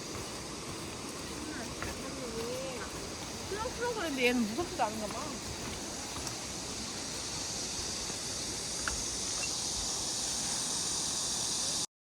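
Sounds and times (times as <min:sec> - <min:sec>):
stream water rushing: 0:00.0 - 0:11.8
insects droning: 0:00.0 - 0:11.9.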